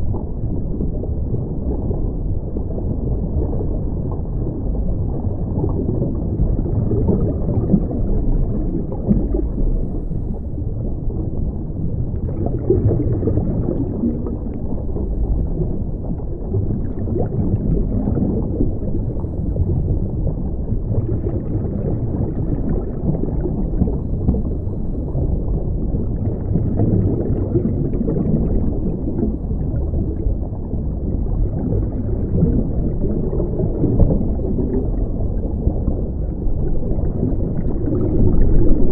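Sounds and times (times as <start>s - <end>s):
muffled underwater rumble: 0.0s - 38.9s
regulator bubbles gurgling: 0.0s - 38.9s.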